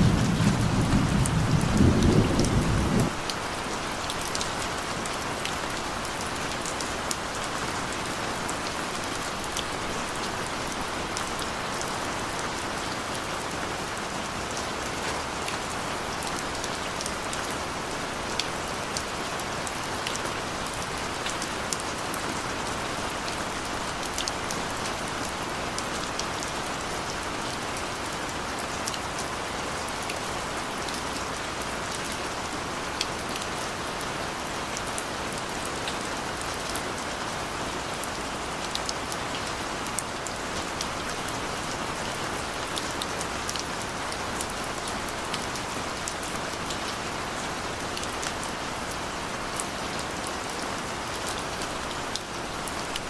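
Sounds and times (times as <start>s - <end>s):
gentle rain hiss: 0.0s - 53.0s.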